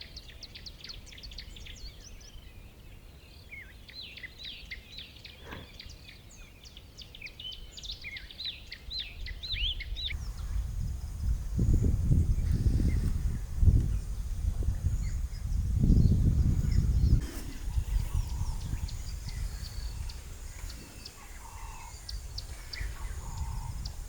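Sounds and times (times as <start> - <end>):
small birds twittering: 0.0 - 24.0.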